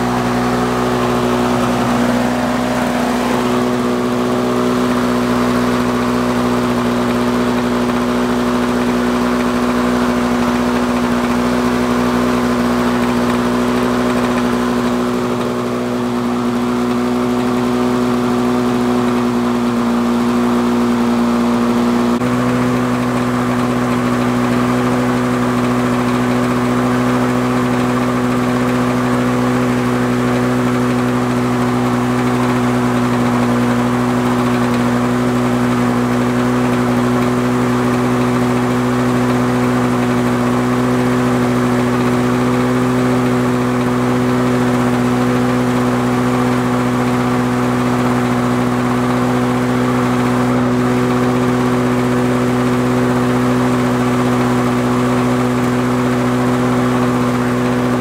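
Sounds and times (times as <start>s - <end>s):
lawn mower engine running fast: 0.0s - 58.0s.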